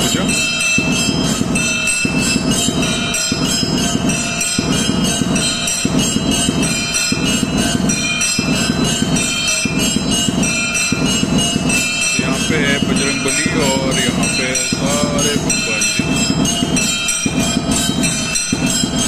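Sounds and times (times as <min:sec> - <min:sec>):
temple bells ringing: 0:00.0 - 0:19.0.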